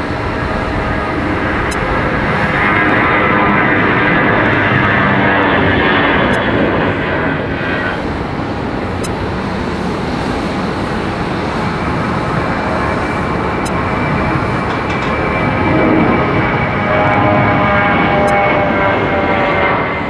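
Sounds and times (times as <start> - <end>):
high engine whine: 0.0 - 20.0
jet engines running loudly: 0.0 - 20.0.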